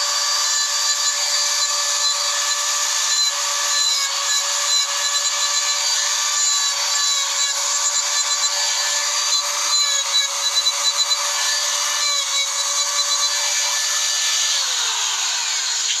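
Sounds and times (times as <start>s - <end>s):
electric grinder whining: 0.0s - 16.0s
gritty hiss of stone cutting: 0.0s - 16.0s.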